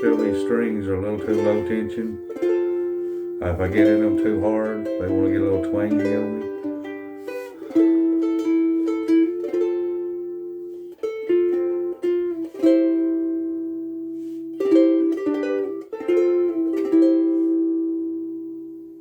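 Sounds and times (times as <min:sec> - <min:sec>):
ukulele picked melody: 0:00.0 - 0:19.0.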